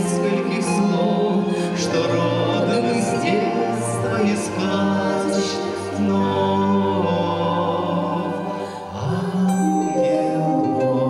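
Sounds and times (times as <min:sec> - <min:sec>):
musical accompaniment: 0:00.0 - 0:11.0
woman and man singing: 0:00.0 - 0:11.0.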